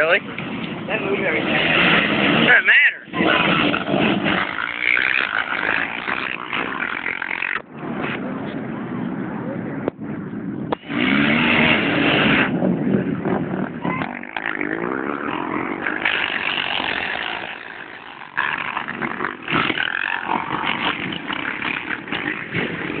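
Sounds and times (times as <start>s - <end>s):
atv engines revving: 0.0s - 23.0s.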